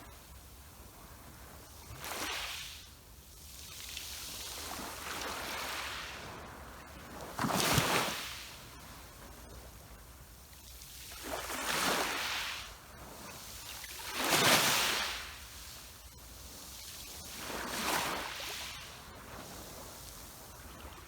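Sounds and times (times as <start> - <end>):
waves washing onto shore: 0.0 - 21.0.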